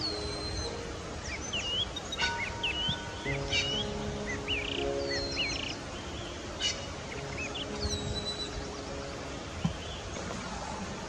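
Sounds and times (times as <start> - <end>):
small birds chirping: 0.0 - 11.0
soft background music: 0.0 - 11.0.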